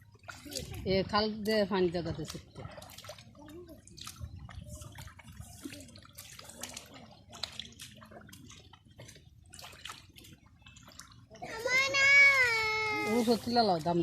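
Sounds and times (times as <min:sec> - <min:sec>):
water splashing and dripping: 0:00.0 - 0:14.0.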